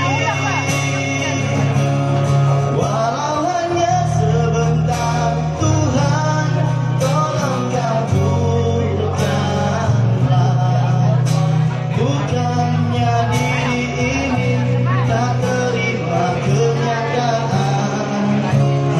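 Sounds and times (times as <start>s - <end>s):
bass line: 0.0s - 18.9s
guitar: 0.0s - 18.9s
person singing: 0.0s - 18.9s.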